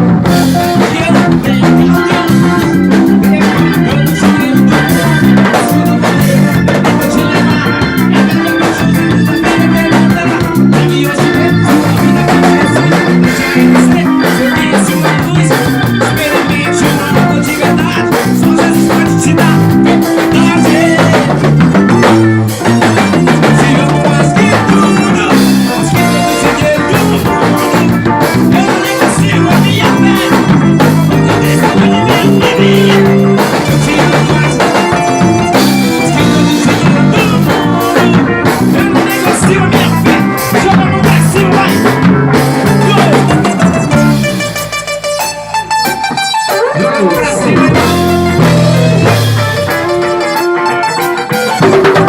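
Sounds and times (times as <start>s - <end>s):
bass line: 0.0s - 52.0s
drum kit: 0.0s - 52.0s
electric guitar: 0.0s - 52.0s.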